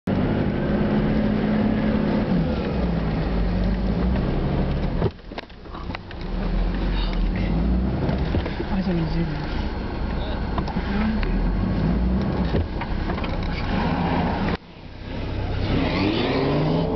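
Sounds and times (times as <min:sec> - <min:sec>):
off-road vehicle engine running: 0:00.1 - 0:16.9.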